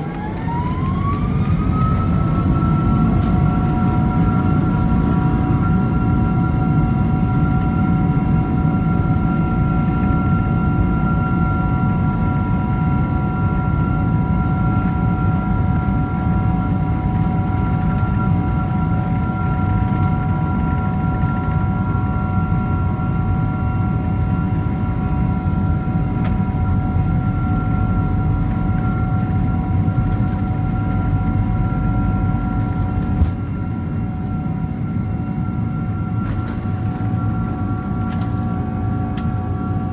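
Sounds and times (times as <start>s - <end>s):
high fan whine: 0.0s - 39.9s
jet engine deep rumble: 0.0s - 39.9s.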